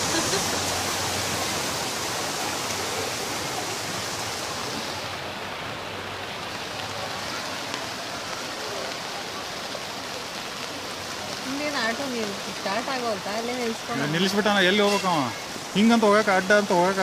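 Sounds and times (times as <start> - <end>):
rain falling: 0.0 - 17.0
rainwater rushing down a street: 0.0 - 17.0.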